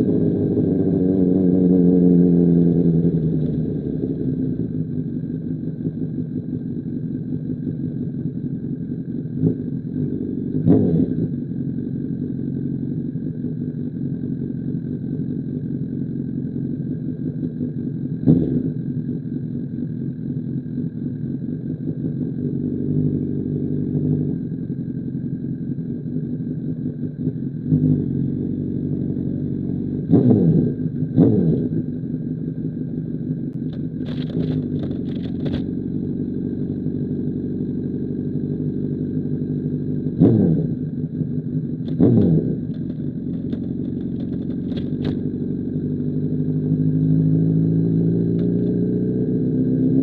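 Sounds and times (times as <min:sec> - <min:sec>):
motorcycle engine revving: 0:00.0 - 0:07.8, 0:08.5 - 0:15.7, 0:16.4 - 0:50.0.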